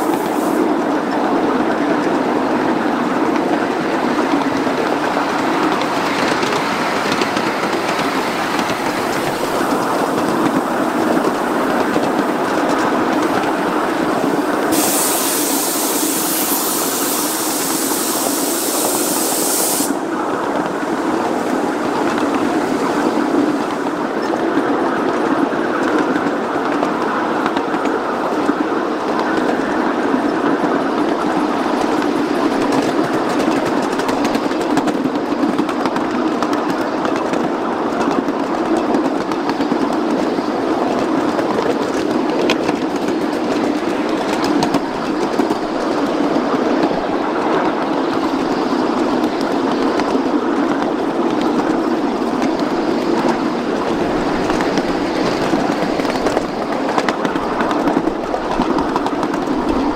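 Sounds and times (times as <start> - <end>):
miniature train wheels rumbling on rails: 0.0 - 59.9.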